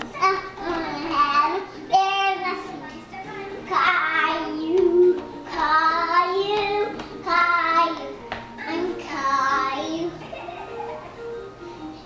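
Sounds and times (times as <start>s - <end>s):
boy singing: 0.2s - 10.2s.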